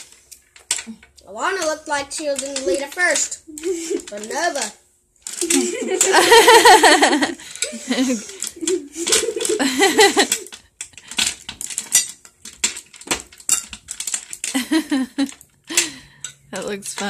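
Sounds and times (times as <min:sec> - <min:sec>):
candy canes clattering on glass: 0:00.0 - 0:17.0.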